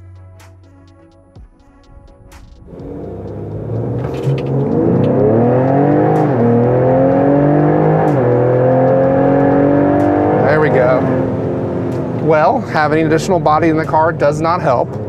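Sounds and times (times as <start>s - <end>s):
car engine accelerating hard: 2.7s - 15.0s.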